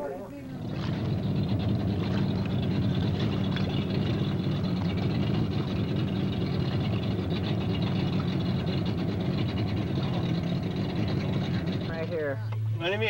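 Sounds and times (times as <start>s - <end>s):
motorboat engine idling: 0.0s - 13.0s
choppy water lapping: 0.3s - 12.4s.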